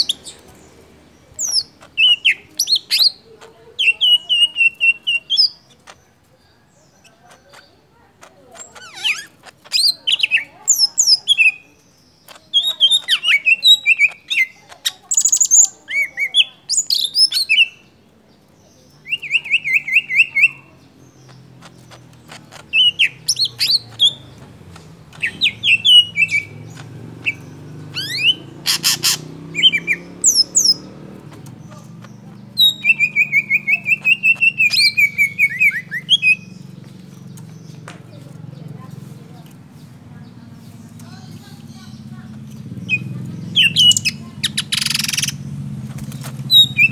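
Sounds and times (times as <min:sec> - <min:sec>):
bird singing chirps and trills: 0:00.0 - 0:46.9.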